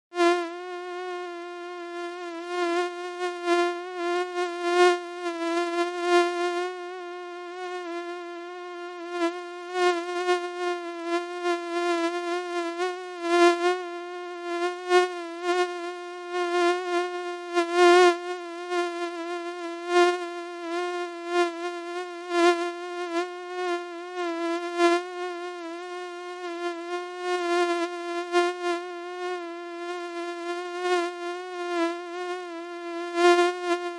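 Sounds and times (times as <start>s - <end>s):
mosquito buzzing: 0.1s - 33.9s.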